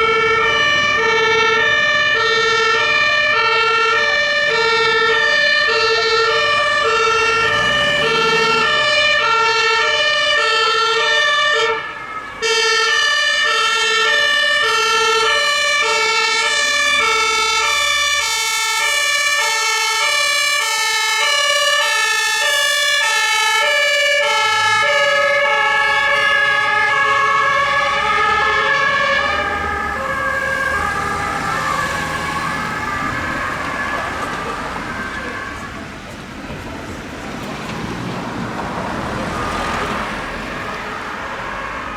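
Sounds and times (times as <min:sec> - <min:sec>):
two-tone emergency sirens: 0:00.0 - 0:41.9
vehicle engines running: 0:00.0 - 0:41.9.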